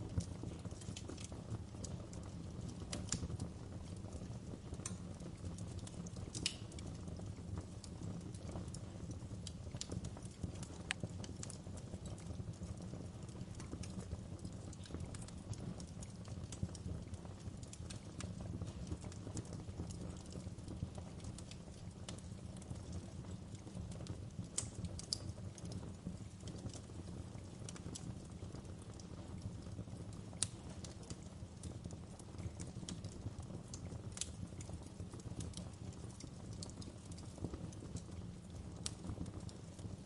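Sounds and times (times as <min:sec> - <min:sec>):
fire crackling and popping: 0:00.0 - 0:40.0
fire flames rumbling: 0:00.0 - 0:40.0.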